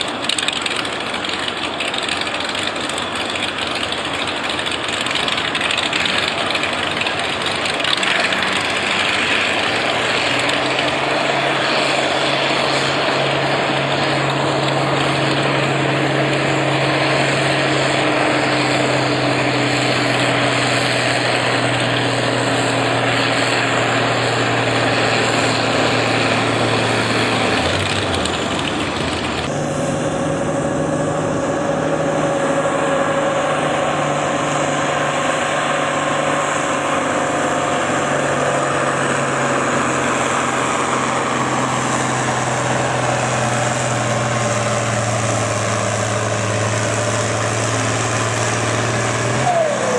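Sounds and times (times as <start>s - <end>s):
loud engine running: 0.0s - 49.9s.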